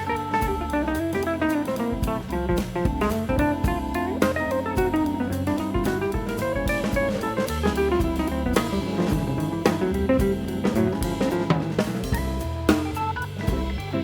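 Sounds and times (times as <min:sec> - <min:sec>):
drum kit beat: 0:00.0 - 0:14.0
instrument melody: 0:00.0 - 0:14.0.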